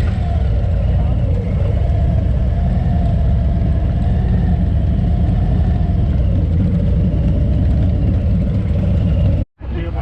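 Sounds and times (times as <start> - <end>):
wind rumble on microphone: 0.0 - 9.4
motorcycle engine running: 0.0 - 9.5.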